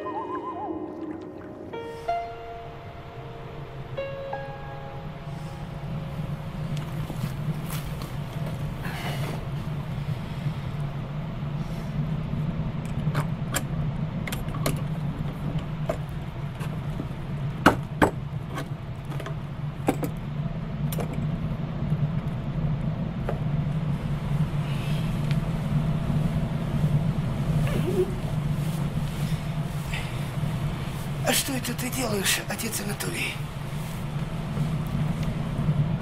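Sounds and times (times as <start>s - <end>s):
low hum: 0.0s - 31.3s, 33.0s - 36.0s.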